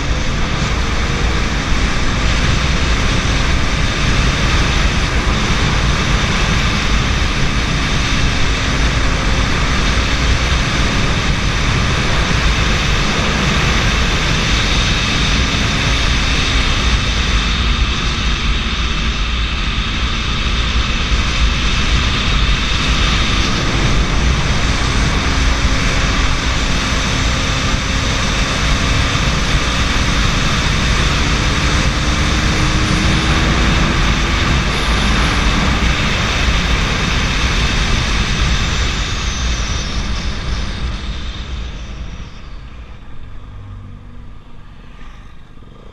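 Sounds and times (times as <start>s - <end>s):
motorcycle engine drone: 0.0s - 45.9s
wind rushing over microphone: 0.0s - 45.9s.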